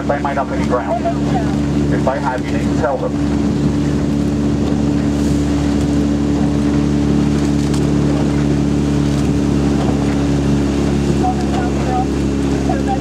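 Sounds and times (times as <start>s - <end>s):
outboard engine humming: 0.0s - 13.0s.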